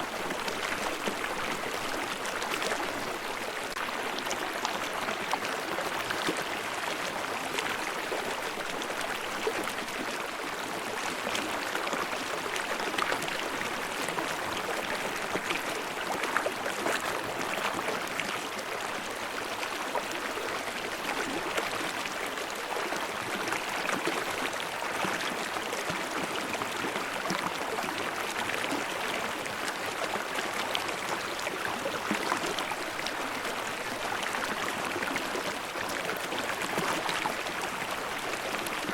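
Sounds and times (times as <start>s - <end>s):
stream splashing over rocks: 0.0s - 38.9s.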